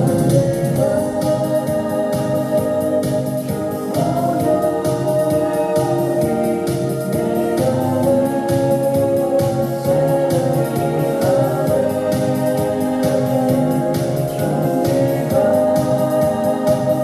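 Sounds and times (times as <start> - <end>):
organ-style keyboard music: 0.0 - 17.0.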